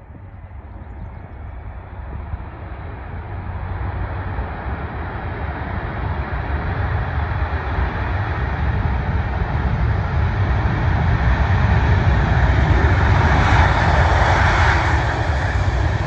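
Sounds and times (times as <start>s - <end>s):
jet engines roaring on takeoff: 0.0s - 16.0s.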